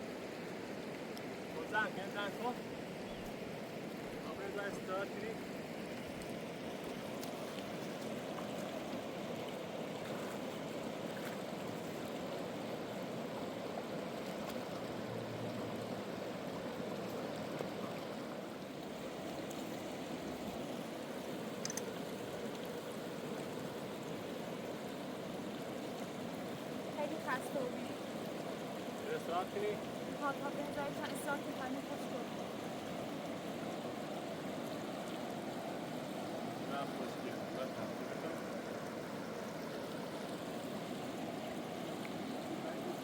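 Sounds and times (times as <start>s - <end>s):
flowing water: 0.0s - 43.0s.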